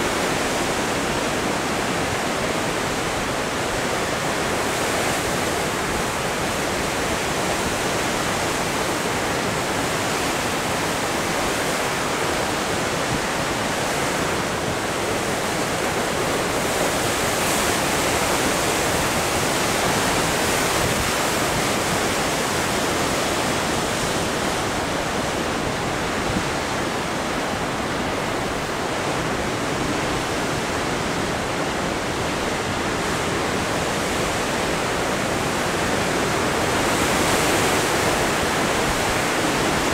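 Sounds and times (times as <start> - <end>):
ocean surf breaking over rocks: 0.0 - 39.9.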